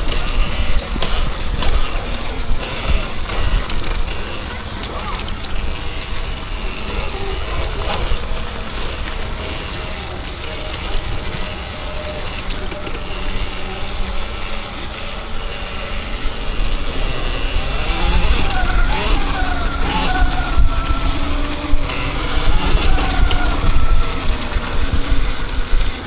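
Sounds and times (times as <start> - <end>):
dirt bike tyre noise: 0.0 - 26.0
wind buffeting microphone: 0.0 - 26.0.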